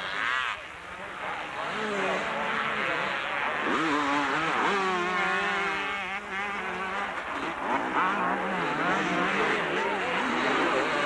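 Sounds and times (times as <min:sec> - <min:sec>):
motocross bikes revving: 0:00.0 - 0:11.0.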